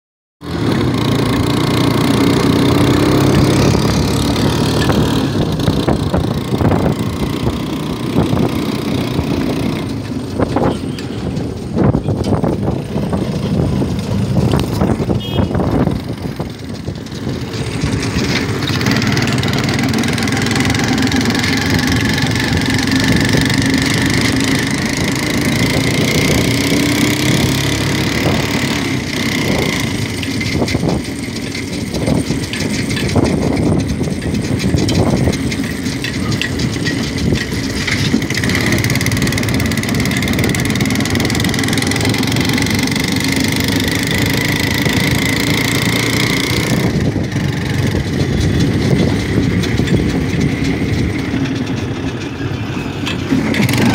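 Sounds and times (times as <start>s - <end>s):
rickshaw engine running: 0.4s - 53.9s
knocks and rattles: 0.5s - 53.9s.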